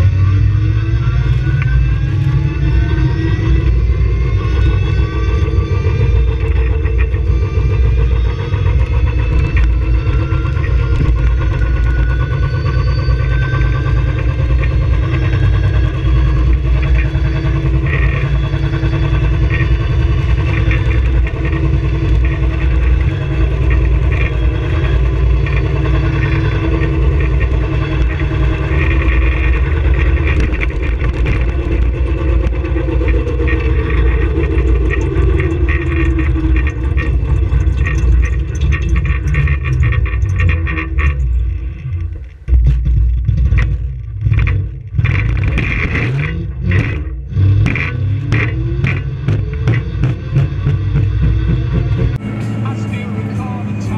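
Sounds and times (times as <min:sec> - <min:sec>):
electric motor whine: 0:00.0 - 0:42.6, 0:43.2 - 0:53.9
low falling tone: 0:00.0 - 0:53.9
wind and road rumble: 0:00.0 - 0:53.9.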